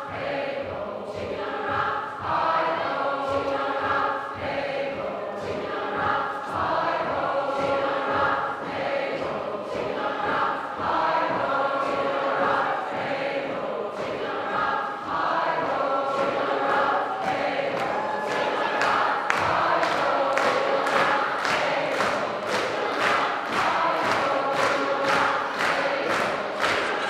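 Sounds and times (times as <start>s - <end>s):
choir singing sea shanty: 0.0s - 27.0s.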